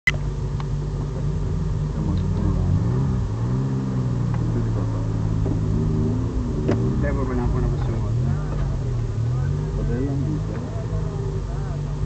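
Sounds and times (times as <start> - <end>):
engine throttle blips: 0.0 - 12.0
car engine idling: 0.1 - 12.0.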